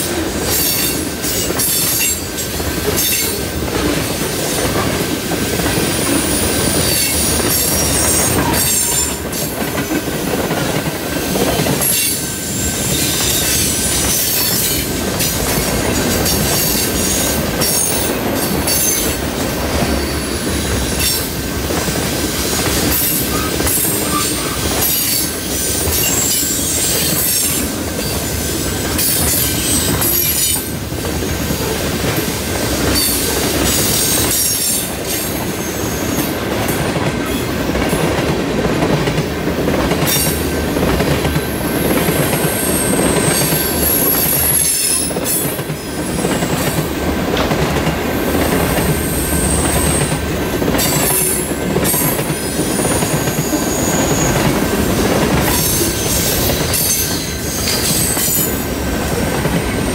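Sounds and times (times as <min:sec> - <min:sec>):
clicks from train wheels: 0:00.0 - 0:59.8
steel wheels rumbling on rail: 0:00.0 - 0:59.9.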